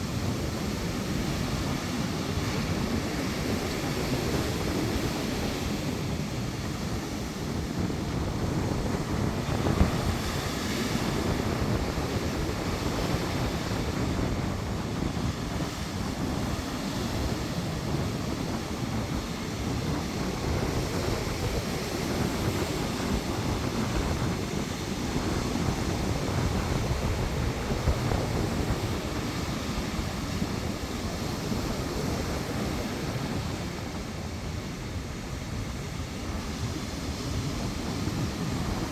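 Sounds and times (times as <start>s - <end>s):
sea waves surging: 0.0s - 38.9s
wind buffeting microphone: 0.0s - 38.9s.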